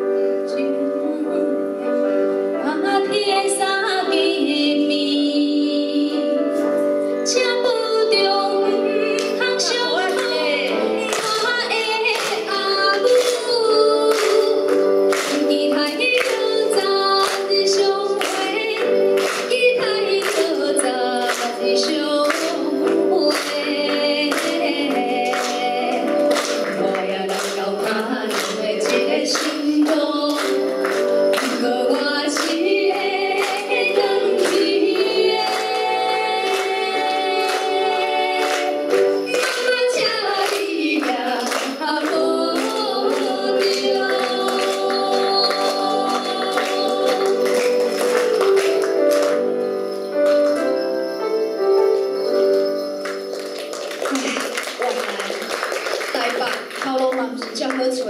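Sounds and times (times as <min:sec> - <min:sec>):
women singing duet: 0:00.5 - 0:02.0, 0:02.6 - 0:06.6, 0:07.2 - 0:48.6
instrumental accompaniment with beat: 0:08.2 - 0:55.2.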